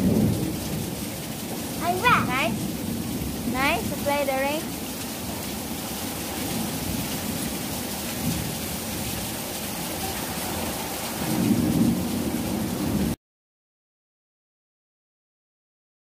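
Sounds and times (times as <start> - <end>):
heavy rain on tiles: 0.0 - 13.2.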